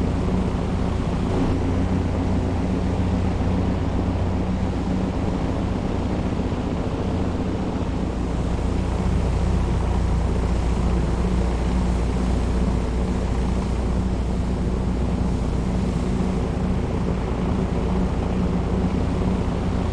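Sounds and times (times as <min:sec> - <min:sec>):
jet engines droning in flight: 0:00.0 - 0:19.9.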